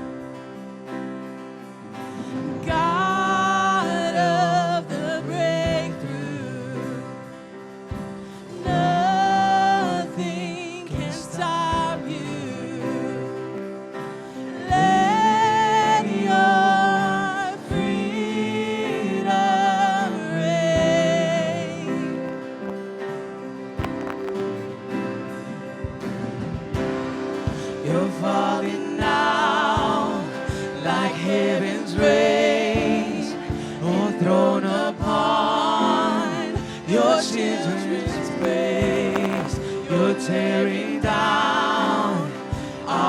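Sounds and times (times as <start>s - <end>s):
sustained chords: 0.0s - 43.0s.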